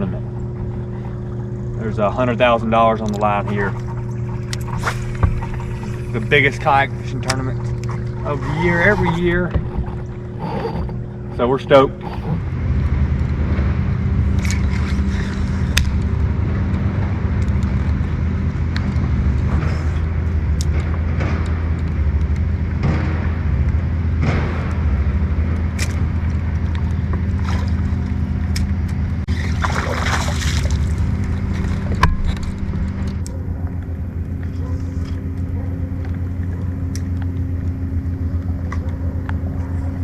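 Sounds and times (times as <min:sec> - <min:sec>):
engine droning: 0:00.0 - 0:40.0.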